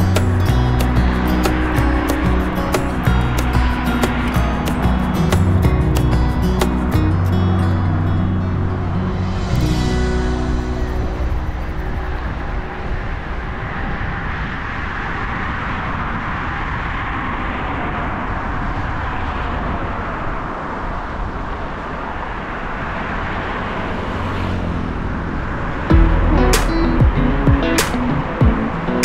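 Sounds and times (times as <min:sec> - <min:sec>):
wind on microphone: 0:00.0 - 0:23.8
passing car traffic: 0:00.0 - 0:29.0.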